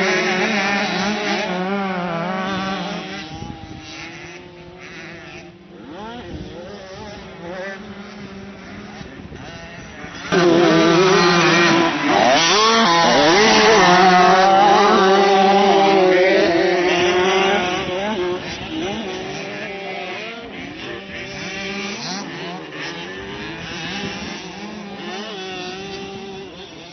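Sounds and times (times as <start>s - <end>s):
motocross bike engines revving: 0.0s - 26.9s.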